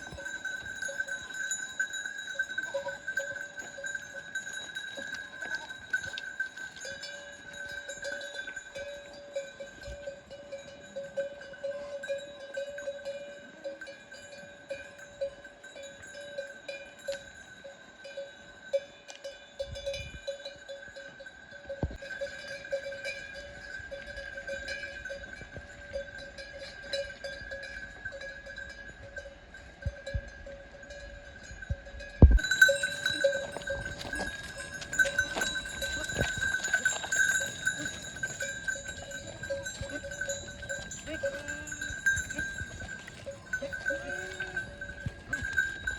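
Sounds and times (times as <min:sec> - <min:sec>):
livestock bells clinking: 0:00.0 - 0:45.9.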